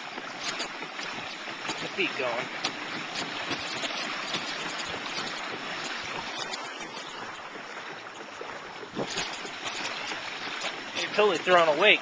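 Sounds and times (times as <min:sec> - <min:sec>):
water rushing along a hull: 0:00.0 - 0:12.0.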